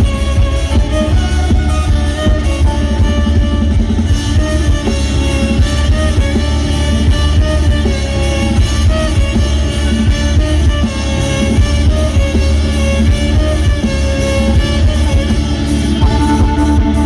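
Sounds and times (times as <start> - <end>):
band playing loud music: 0.0 - 17.0
steady drum beat: 0.0 - 17.0
violin-like melody: 0.0 - 17.0.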